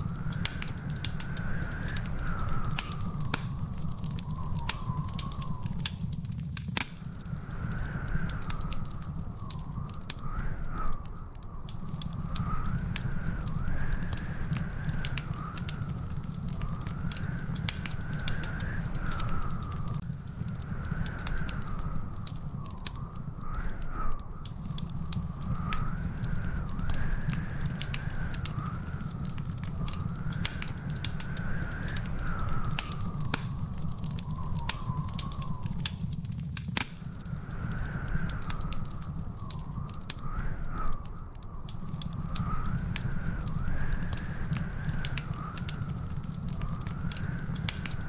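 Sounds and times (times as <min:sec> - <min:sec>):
wood fire crackling and popping: 0:00.0 - 0:48.0.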